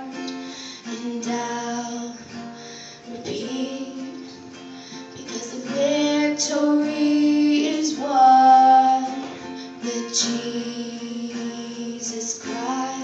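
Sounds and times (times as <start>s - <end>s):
girl singing long notes: 0.0s - 13.0s
guitar: 0.0s - 13.0s.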